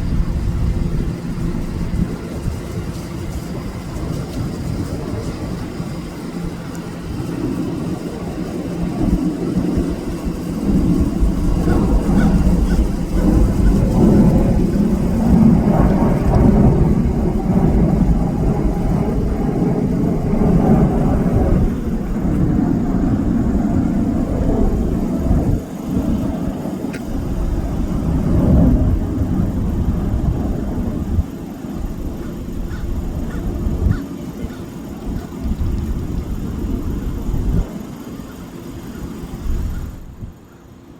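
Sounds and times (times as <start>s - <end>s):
jet engine rumble: 0.0s - 40.9s.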